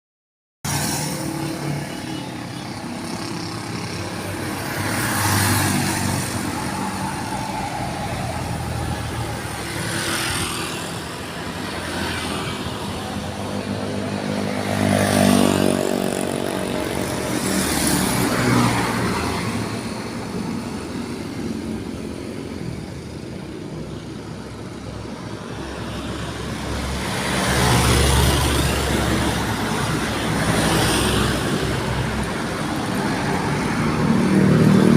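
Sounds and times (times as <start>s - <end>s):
vehicle engines and tyre noise: 0.6s - 34.9s
vehicles passing: 0.7s - 34.9s.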